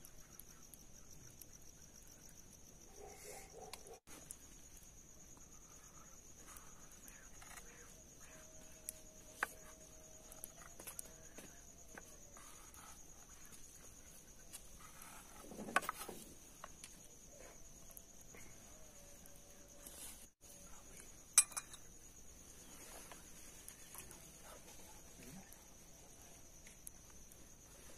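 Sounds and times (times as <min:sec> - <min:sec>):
high insect trill: 0:00.0 - 0:27.9.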